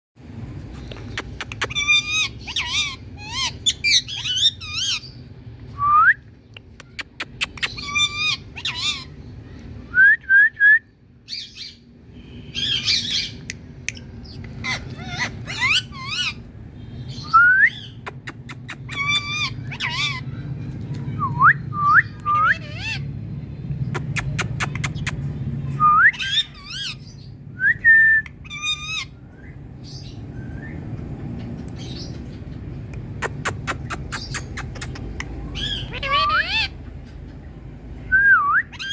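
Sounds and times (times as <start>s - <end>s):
parakeet squawking and chattering: 0.6s - 5.5s, 6.6s - 9.6s, 11.3s - 27.4s, 28.3s - 37.8s, 38.7s - 38.9s.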